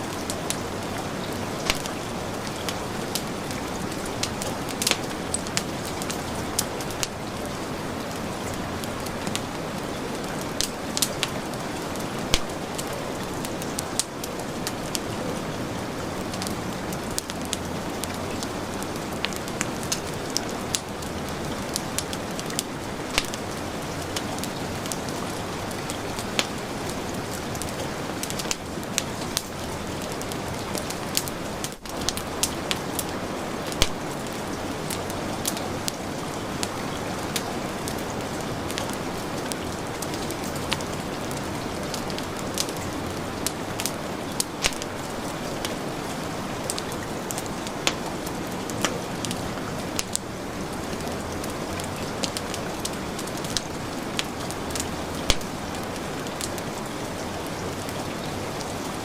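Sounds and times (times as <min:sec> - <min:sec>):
heavy rain hissing: 0:00.0 - 0:59.0
wood fire crackling and popping: 0:00.0 - 0:59.0.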